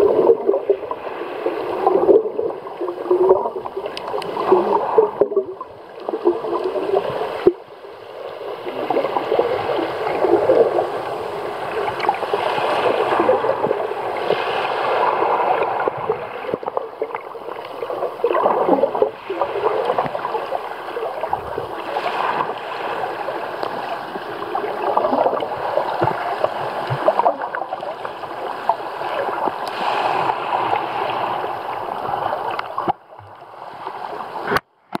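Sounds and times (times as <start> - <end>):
muffled underwater rushing and gurgling: 0.0 - 35.0.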